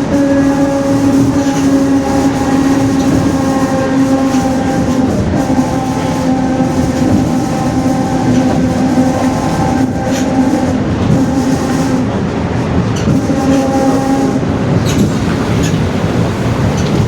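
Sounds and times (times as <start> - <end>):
bus differential howling: 0.0 - 17.0
deep road and driveline rumble: 0.0 - 17.0.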